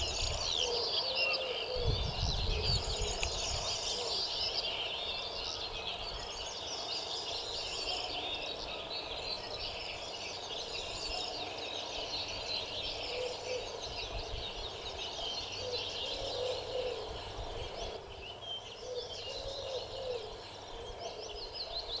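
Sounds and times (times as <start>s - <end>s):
lower wavering bird calls: 0.0s - 22.0s
songbirds chirping and trilling: 0.0s - 22.0s.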